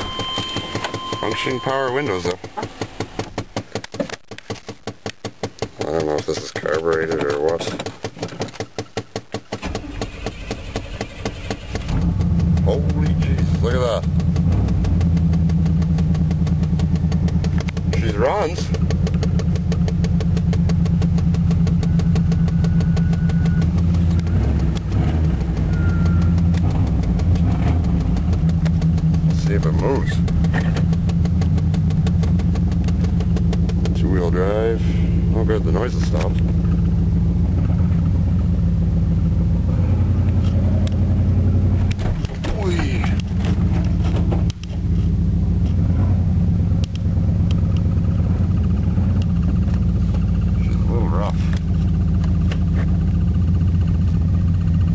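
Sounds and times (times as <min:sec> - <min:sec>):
truck engine idling: 0:09.6 - 0:54.9.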